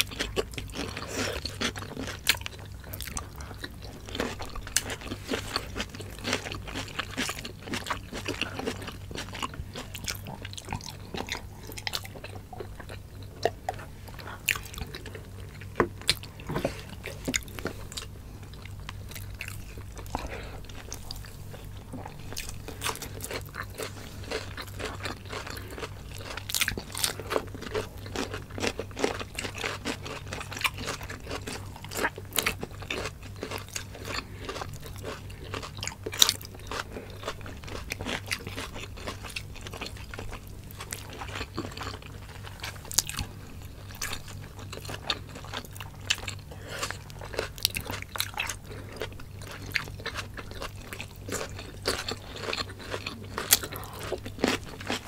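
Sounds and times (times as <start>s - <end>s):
faint low hum: 0.0s - 55.0s
people chewing crunchy food: 0.0s - 55.0s.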